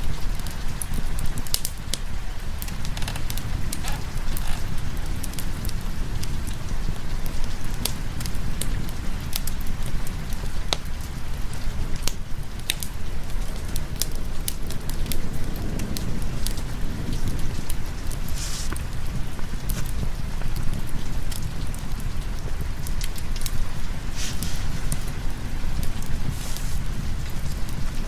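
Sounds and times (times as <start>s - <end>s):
steady rain: 0.0s - 28.0s
wood fire crackling and popping: 0.0s - 28.0s.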